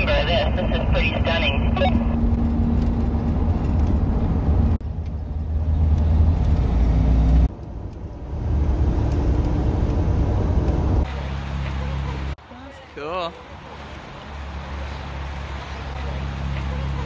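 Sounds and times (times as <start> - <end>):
road and engine rumble in a van: 0.0 - 17.0.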